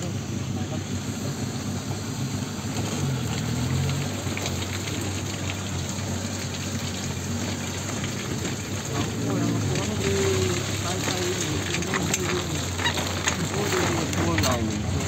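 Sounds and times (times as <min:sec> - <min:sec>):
tyres splashing through mud: 0:00.0 - 0:15.0
vehicle engine running slowly: 0:00.0 - 0:15.0.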